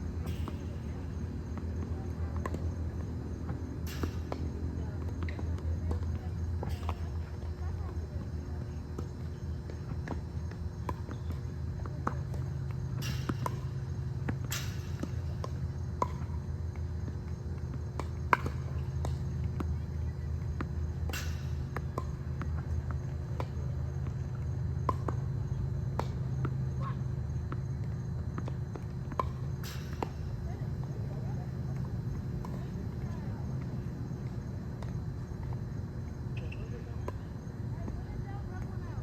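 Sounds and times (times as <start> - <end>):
steady low hum: 0.0 - 39.0
tennis balls struck and bouncing: 0.2 - 38.0.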